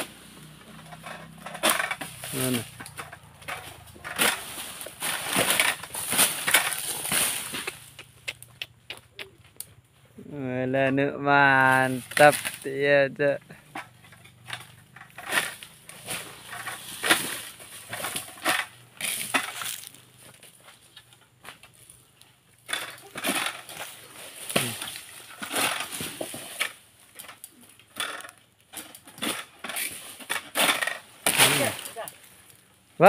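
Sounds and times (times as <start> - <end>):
sickle cutting palm fronds: 0.0 - 9.4, 11.4 - 22.0, 22.6 - 33.0.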